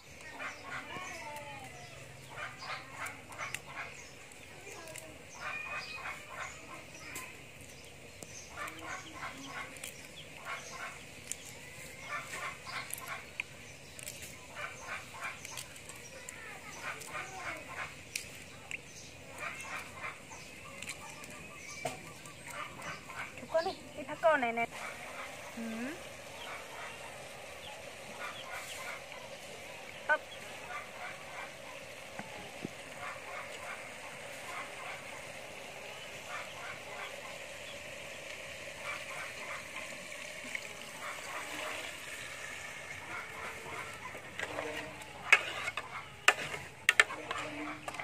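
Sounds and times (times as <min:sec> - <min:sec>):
animal clucks and chirps: 0:00.0 - 0:48.0.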